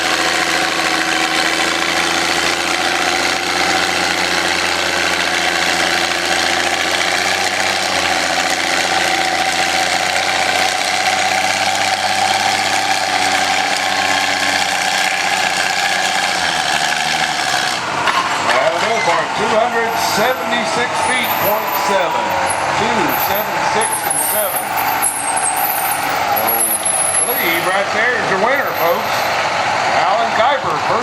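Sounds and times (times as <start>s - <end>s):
tractor engine rattling: 0.0s - 31.0s.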